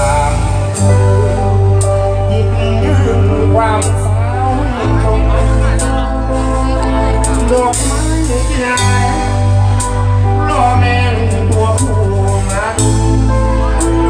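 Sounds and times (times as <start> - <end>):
bass line: 0.0 - 14.0
live band music: 0.0 - 14.0
person singing: 0.0 - 14.0.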